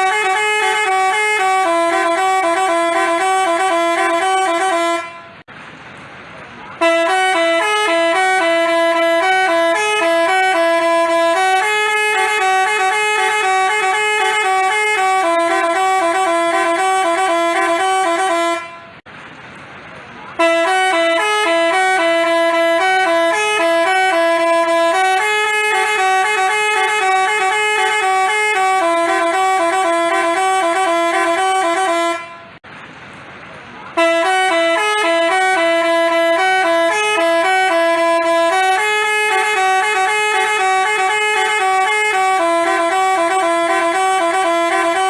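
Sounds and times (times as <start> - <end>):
musical bus horn melody: 0.0 - 5.5, 6.8 - 19.1, 20.3 - 32.6, 33.9 - 45.0.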